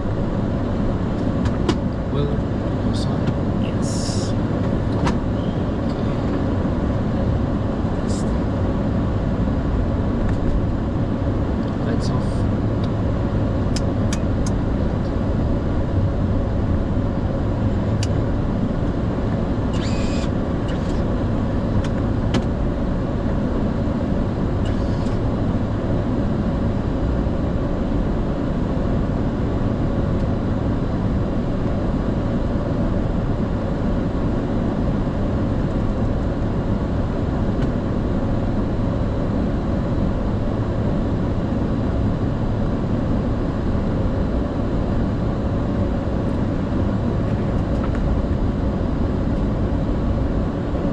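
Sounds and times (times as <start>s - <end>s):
aircraft cabin low rumble: 0.0s - 50.9s.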